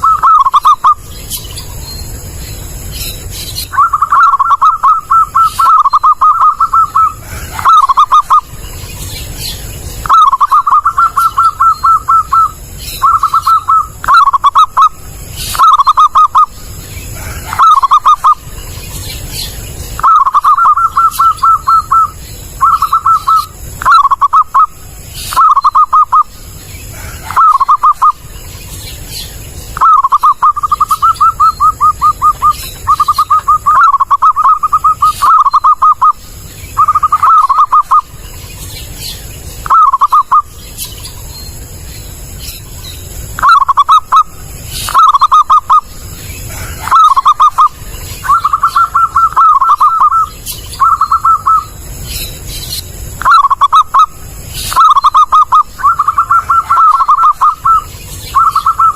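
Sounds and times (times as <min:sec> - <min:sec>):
dove cooing: 0:00.0 - 0:01.1, 0:03.6 - 0:29.2, 0:29.8 - 0:38.3, 0:39.6 - 0:40.5, 0:43.3 - 0:51.8, 0:53.2 - 0:58.9.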